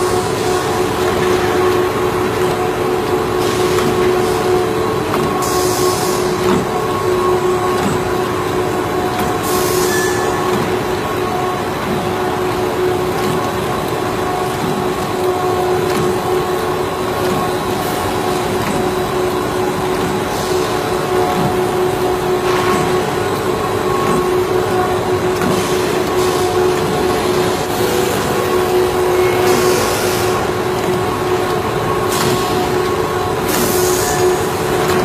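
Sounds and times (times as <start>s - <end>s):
industrial machine humming: 0.0s - 35.0s.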